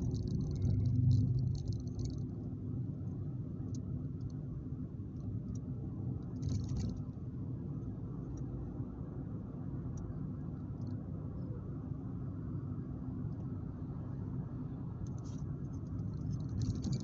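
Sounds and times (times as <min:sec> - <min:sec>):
car tyre and engine rumble: 0:00.0 - 0:17.0.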